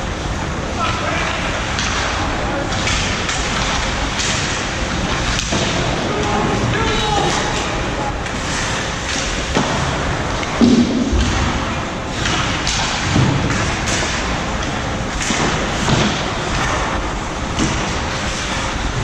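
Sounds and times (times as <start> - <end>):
ice hockey game noise: 0.0 - 19.0.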